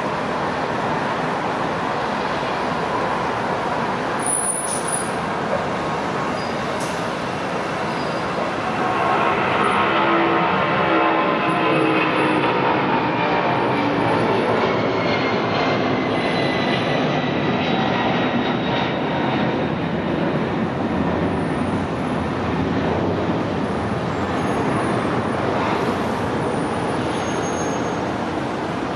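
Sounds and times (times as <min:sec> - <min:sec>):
jet engine roar with high whine: 0:00.0 - 0:28.9.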